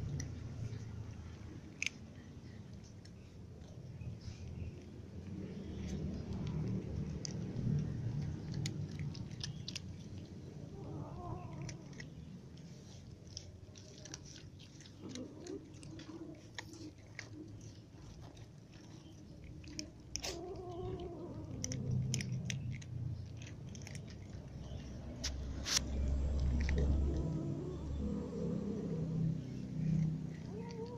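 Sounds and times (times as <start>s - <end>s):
cats crunching dry kibble: 0.0s - 30.9s.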